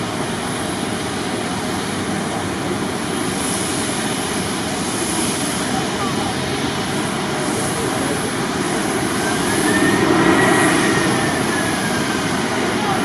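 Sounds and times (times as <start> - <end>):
high engine whine: 0.0 - 13.0
jet engines running: 0.0 - 13.0.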